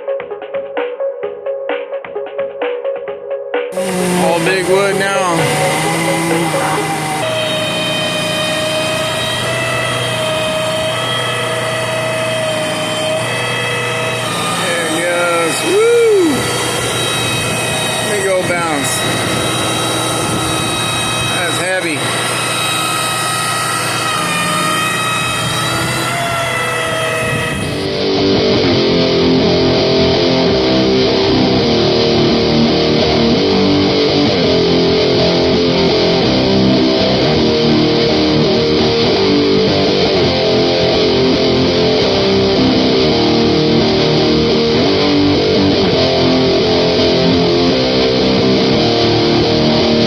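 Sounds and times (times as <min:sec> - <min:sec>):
distorted electric guitar music: 0:03.7 - 0:50.0.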